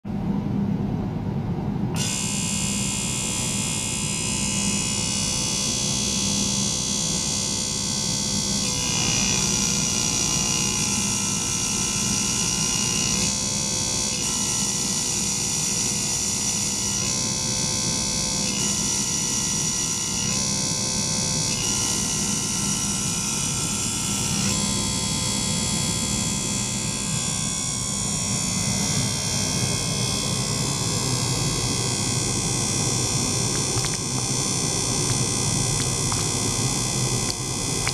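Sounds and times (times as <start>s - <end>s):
pump buzzing hum with hiss: 0.1s - 37.9s.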